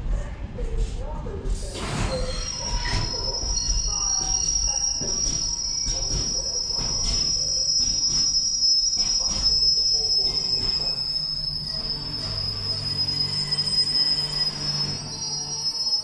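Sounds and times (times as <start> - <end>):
train rumbling past: 0.0 - 16.0
high-pitched wheel squeal: 1.9 - 16.0.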